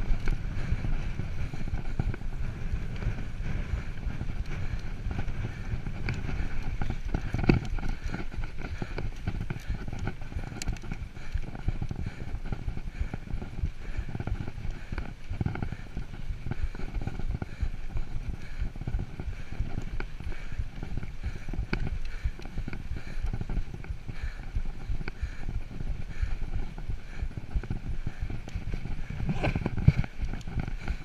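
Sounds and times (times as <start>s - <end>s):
bike rattling over bumps: 0.0s - 31.0s
bike tyres rolling on dirt: 0.0s - 31.0s
wind on microphone: 0.0s - 31.0s.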